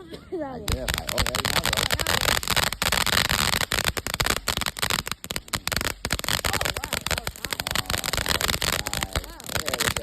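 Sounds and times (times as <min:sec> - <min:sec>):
firework crackling: 0:00.7 - 0:10.0.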